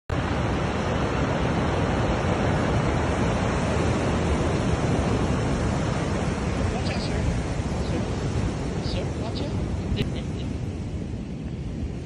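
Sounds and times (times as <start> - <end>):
surf breaking on pebble beach: 0.2 - 12.0.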